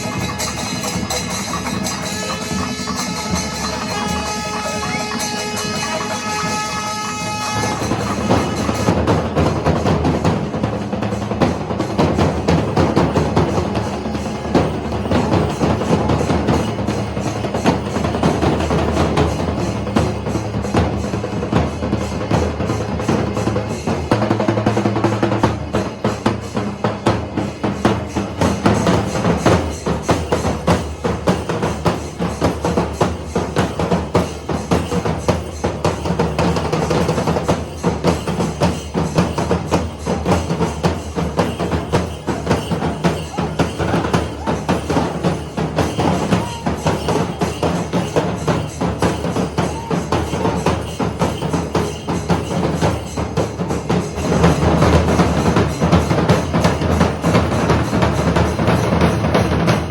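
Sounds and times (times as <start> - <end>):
percussion ensemble drumming: 0.0 - 59.9.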